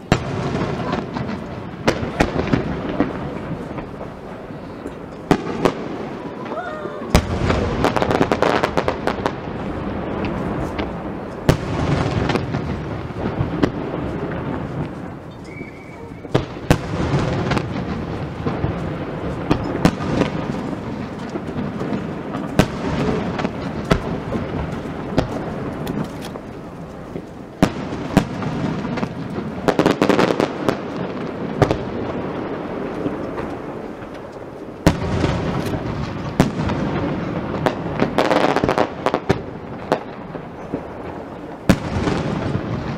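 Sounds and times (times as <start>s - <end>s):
fireworks crackle: 0.0s - 42.9s.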